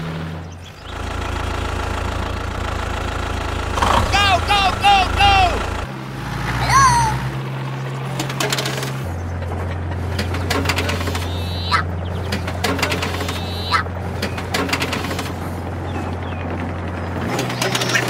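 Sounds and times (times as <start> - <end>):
low engine-like drone: 0.0 - 18.0.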